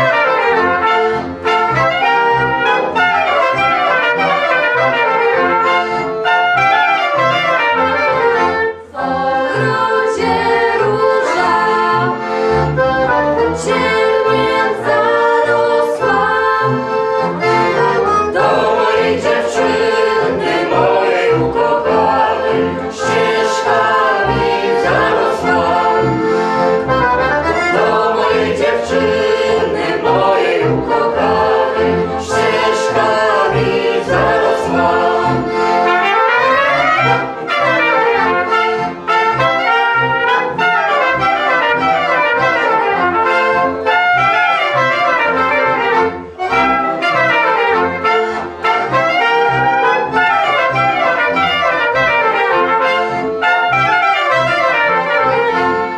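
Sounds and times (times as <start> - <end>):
accordion: 0.0 - 55.9
clarinet: 0.0 - 55.9
double bass: 0.0 - 55.9
trumpet: 0.0 - 55.9.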